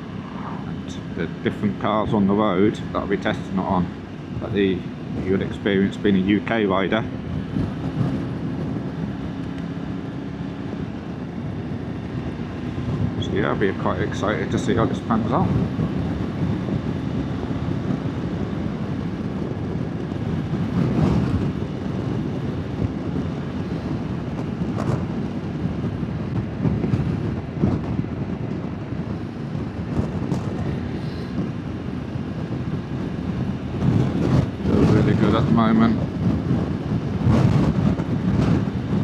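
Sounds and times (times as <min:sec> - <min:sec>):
motorbike engine: 0:00.0 - 0:39.0
road noise: 0:00.0 - 0:39.0
wind rush: 0:00.0 - 0:39.0.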